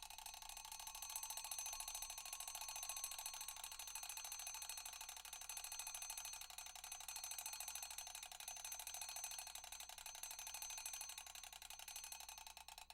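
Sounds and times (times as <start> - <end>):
mechanical alarm bell ringing: 0.2 - 12.7.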